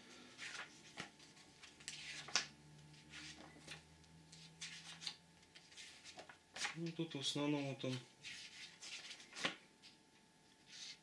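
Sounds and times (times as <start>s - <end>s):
pages turning: 0.3s - 7.0s, 7.6s - 10.0s.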